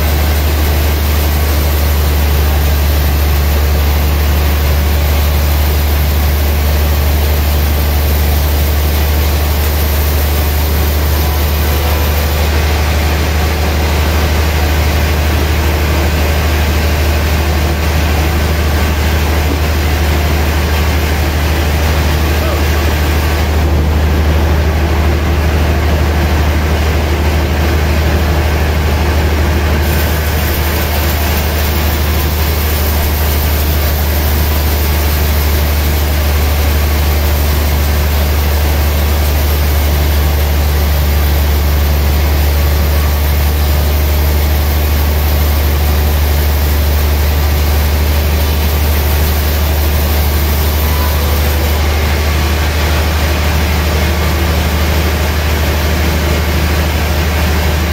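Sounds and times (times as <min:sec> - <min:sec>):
band saw cutting log: 0:00.0 - 0:23.8, 0:29.8 - 0:54.8.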